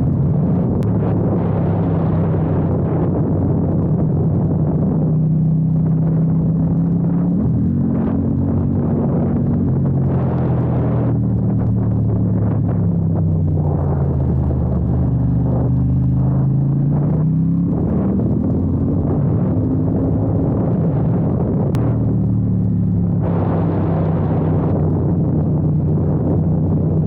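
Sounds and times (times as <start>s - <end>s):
motorcycle engine running: 0.0s - 27.0s
wind and road rush: 0.0s - 27.0s.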